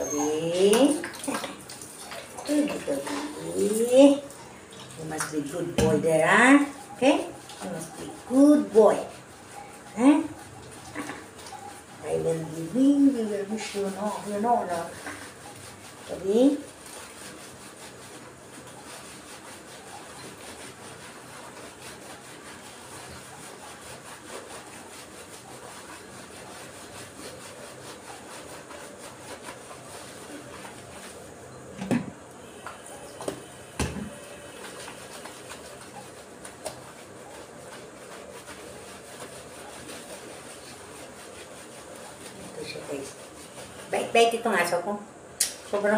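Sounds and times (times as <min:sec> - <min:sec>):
hands scrubbing wet dog coat: 0:00.0 - 0:31.5, 0:32.4 - 0:45.0, 0:45.6 - 0:45.9.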